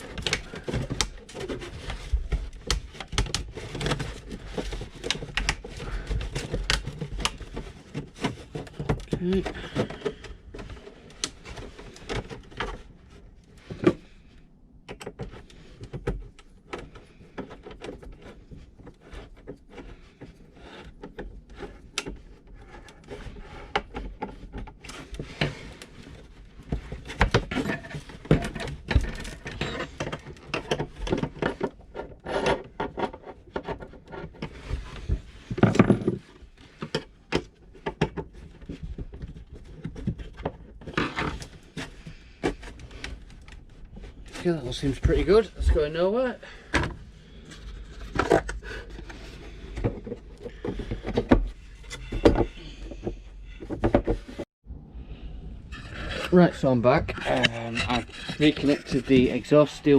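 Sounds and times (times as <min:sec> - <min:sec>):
clicks knocks and scrapes: 0:00.0 - 0:54.5, 0:55.7 - 0:59.9.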